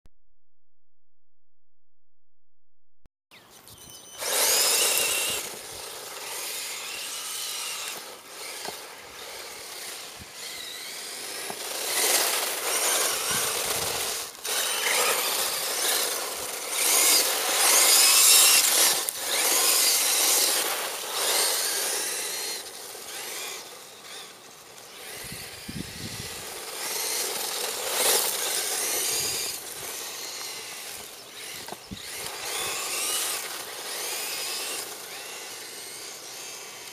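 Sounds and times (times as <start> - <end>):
electric motor whine: 3.7 - 36.9
tyres scrabbling on dirt: 4.2 - 36.9.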